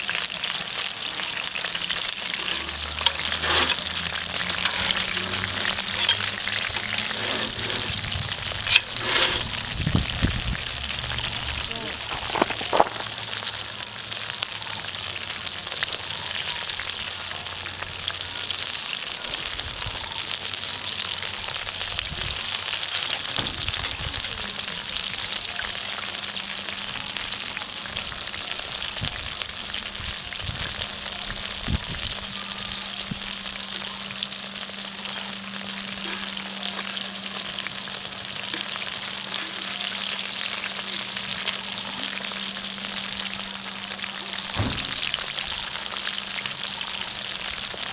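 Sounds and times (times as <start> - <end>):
food sizzling in hot oil: 0.0 - 47.9.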